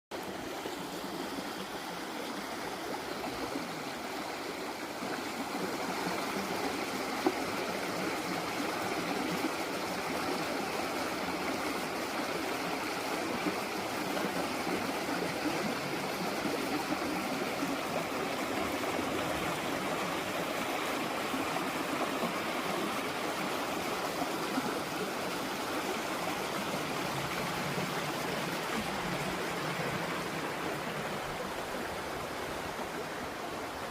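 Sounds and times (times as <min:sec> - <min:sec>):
stream flowing: 0:00.1 - 0:33.9.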